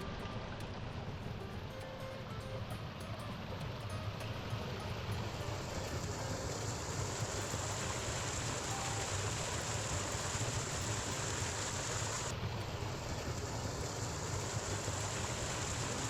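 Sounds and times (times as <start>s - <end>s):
rushing creek water: 0.0s - 16.0s.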